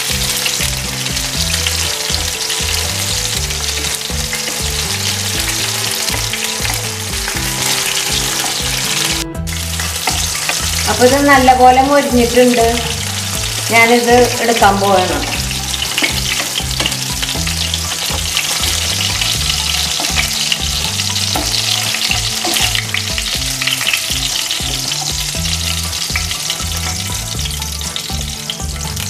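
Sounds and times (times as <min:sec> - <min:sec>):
deep-frying sizzle: 0:00.0 - 0:29.0.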